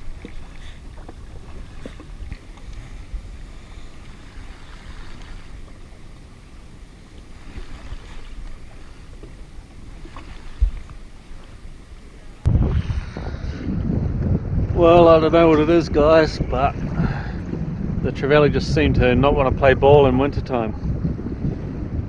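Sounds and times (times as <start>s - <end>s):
water lapping: 0.0s - 18.9s
wind buffeting microphone: 0.0s - 22.0s.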